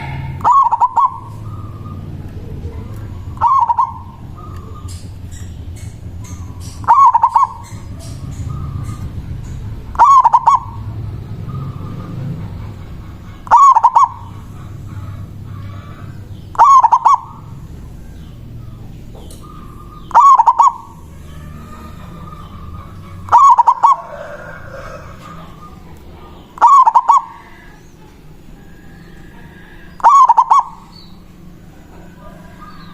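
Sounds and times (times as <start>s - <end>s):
dove cooing: 0.0s - 32.9s.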